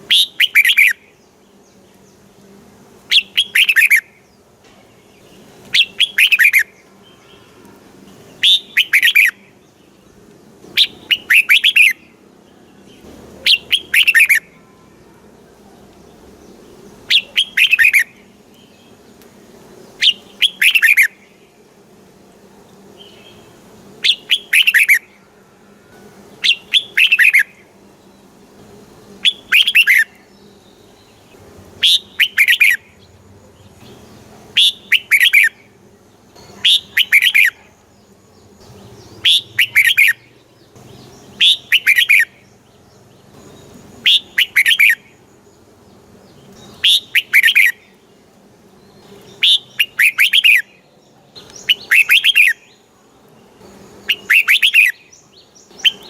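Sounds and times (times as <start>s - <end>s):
bird singing: 0.0s - 2.4s, 3.0s - 56.0s.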